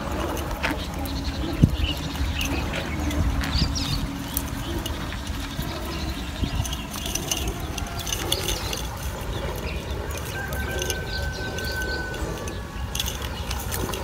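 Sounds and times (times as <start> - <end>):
birds chirping: 0.0 - 14.0
fishing net clicking and rattling: 0.0 - 14.0
wind on microphone: 0.0 - 14.0.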